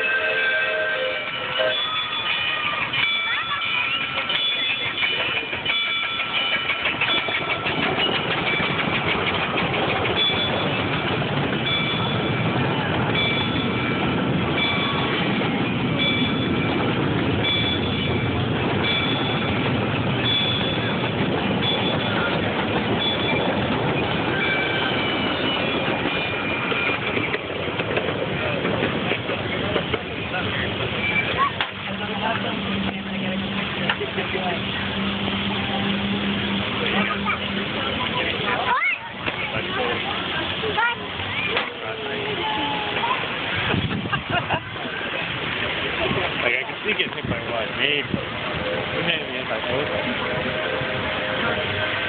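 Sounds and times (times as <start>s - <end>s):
crossing bell ringing: 0.0s - 43.7s
miniature train clattering on rails: 0.0s - 52.0s.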